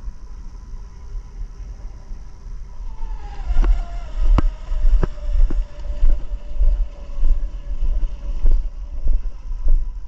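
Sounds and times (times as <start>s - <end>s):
faint electric motor whine: 0.0s - 10.0s
wind buffeting microphone: 0.0s - 10.0s.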